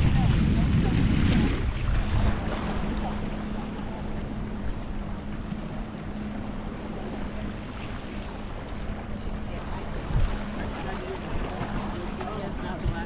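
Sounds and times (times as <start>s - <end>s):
boat motor humming: 0.0s - 13.0s
surf: 0.0s - 13.0s
wind: 0.0s - 13.0s
wind buffeting microphone: 0.0s - 13.0s.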